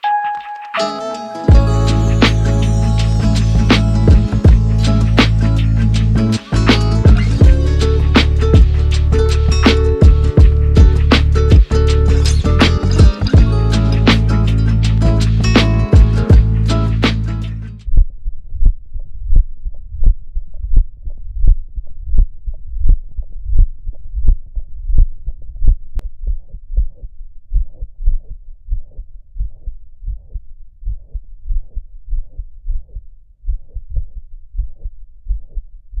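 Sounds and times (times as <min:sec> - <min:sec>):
heartbeat: 0:01.5 - 0:02.5, 0:03.1 - 0:14.4, 0:15.0 - 0:16.8, 0:17.9 - 0:36.0.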